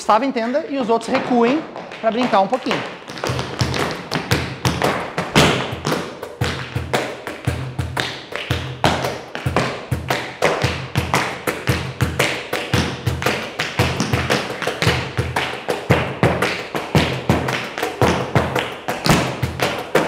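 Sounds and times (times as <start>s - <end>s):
tap shoes on wooden floor: 0.0s - 20.0s.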